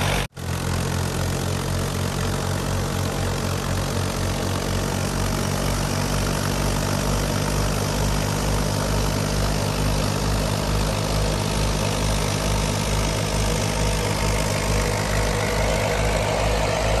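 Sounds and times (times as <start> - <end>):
diesel tractor engine throbbing: 0.0 - 17.0
thresher rushing noise: 0.0 - 17.0.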